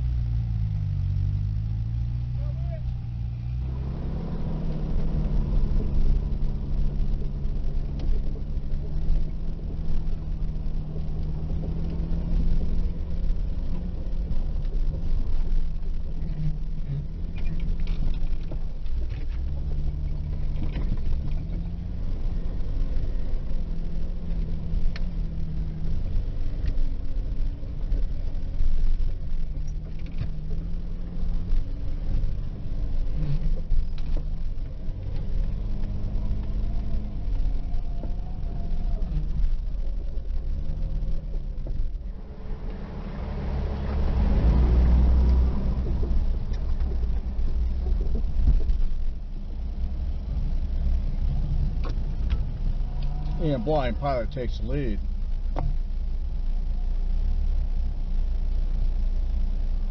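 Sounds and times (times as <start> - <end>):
vehicle engine running slowly: 0.0 - 59.9.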